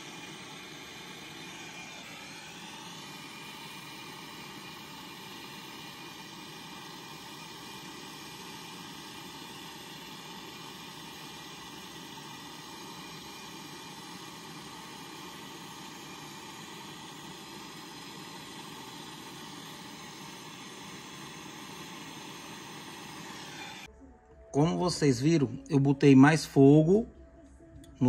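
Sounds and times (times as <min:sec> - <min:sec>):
gas torch hissing: 0:00.0 - 0:23.9.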